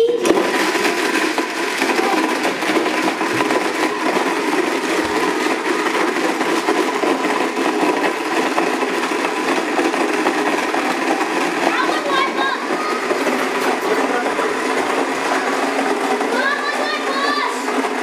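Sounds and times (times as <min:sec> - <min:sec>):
blender running: 0:00.0 - 0:18.0.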